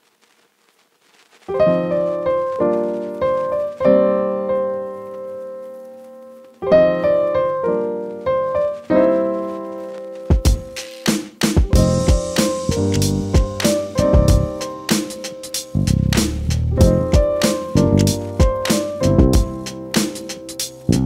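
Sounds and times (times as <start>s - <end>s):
piano chords: 1.5s - 21.0s.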